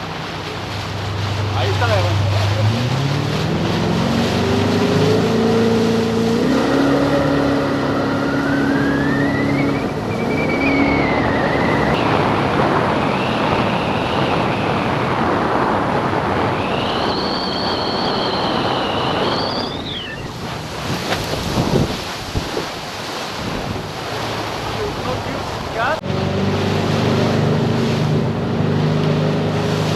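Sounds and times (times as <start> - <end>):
boat engine whining: 0.0 - 29.9
rushing water: 0.0 - 29.9.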